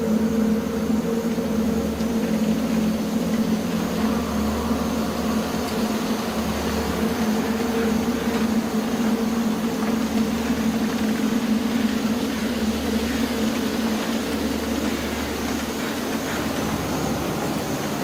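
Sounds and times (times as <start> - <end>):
dark ambient drone: 0.0 - 18.0.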